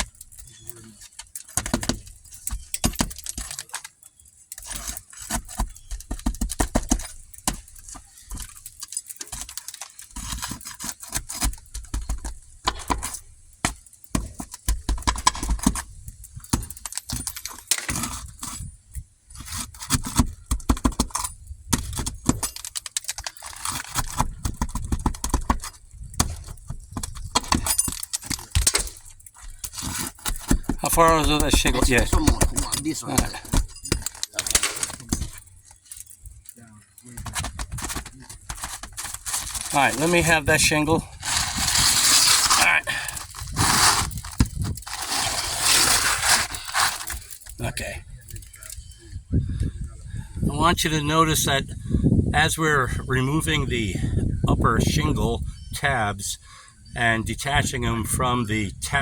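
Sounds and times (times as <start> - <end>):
roof shingles cracking and scraping: 0.0 - 48.9.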